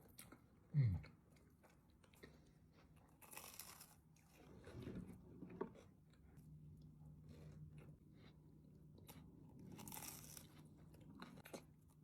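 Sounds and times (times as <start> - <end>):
crunching and chewing of pie: 0.0 - 4.7, 5.6 - 12.0.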